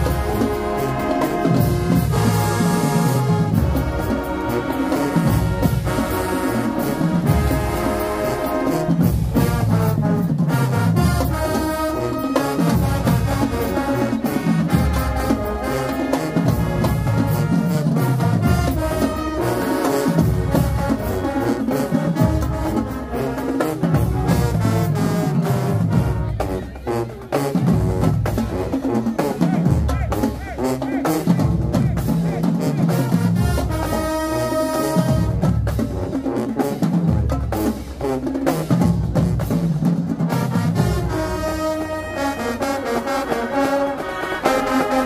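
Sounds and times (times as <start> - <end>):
marching band playing: 0.0 - 45.0.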